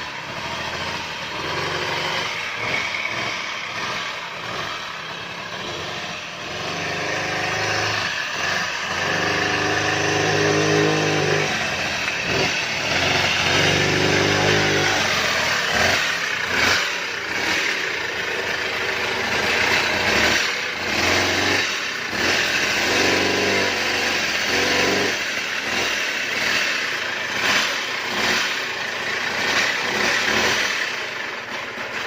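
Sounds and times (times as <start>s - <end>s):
chainsaw engine revving: 0.0s - 32.0s.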